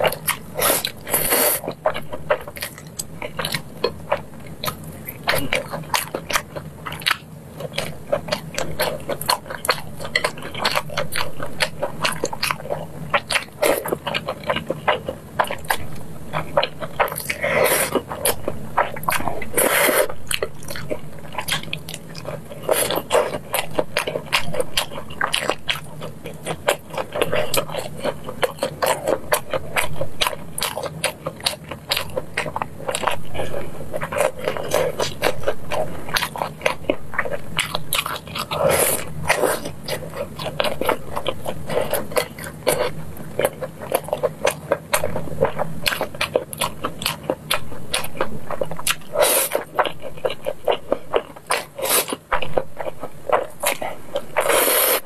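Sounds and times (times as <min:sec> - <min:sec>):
mouth clicks and crunches: 0:00.0 - 0:55.0
wet chewing and biting: 0:00.0 - 0:55.0.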